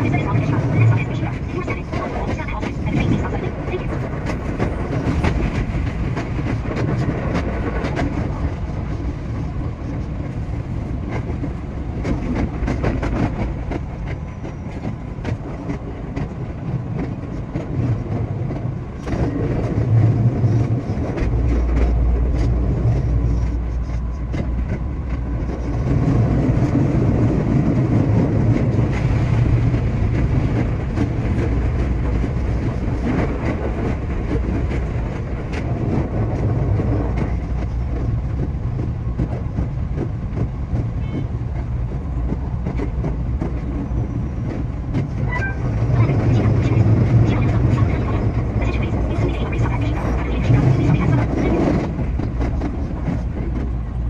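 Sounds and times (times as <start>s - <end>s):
rail joint clicks: 0.0s - 54.0s
train wheels rumbling on rail: 0.0s - 54.0s.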